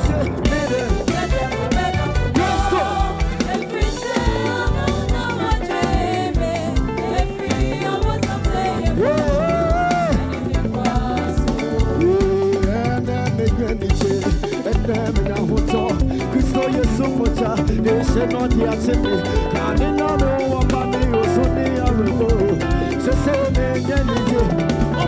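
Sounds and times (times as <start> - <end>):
band playing dance beat: 0.0 - 25.0
people singing: 0.0 - 25.0.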